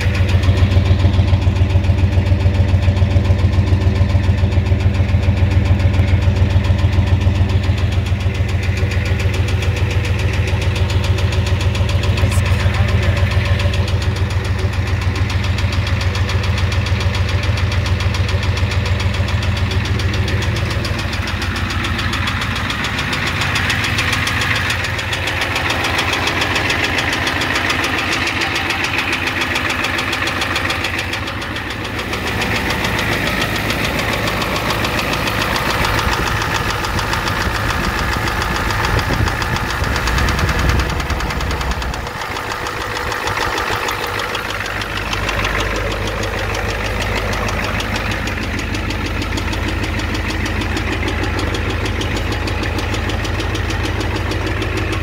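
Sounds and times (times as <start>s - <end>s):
deep exhaust rumble: 0.0s - 55.0s
diesel engine idling: 0.0s - 55.0s
engine knock: 0.0s - 55.0s.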